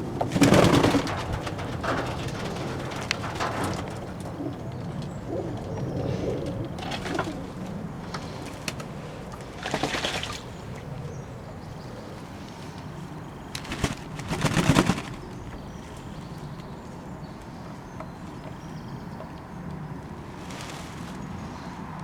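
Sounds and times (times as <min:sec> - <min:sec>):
doves wing-beating and splashing: 0:00.0 - 0:19.6.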